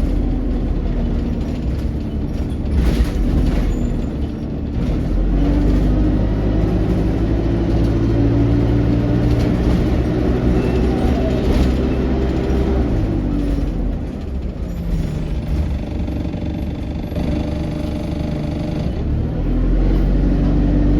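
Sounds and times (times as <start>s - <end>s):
bus engine drone: 0.0s - 20.9s
road noise: 0.0s - 20.9s.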